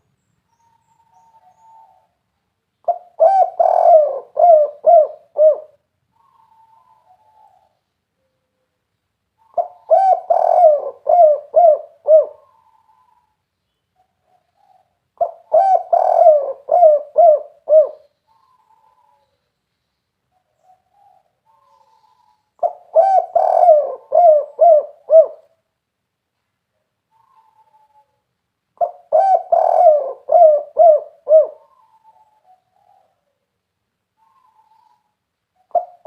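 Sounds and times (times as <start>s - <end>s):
dove cooing: 0.6s - 2.2s, 2.8s - 8.6s, 9.4s - 13.4s, 14.0s - 19.4s, 20.3s - 25.6s, 27.1s - 28.2s, 28.8s - 33.5s, 34.2s - 36.0s.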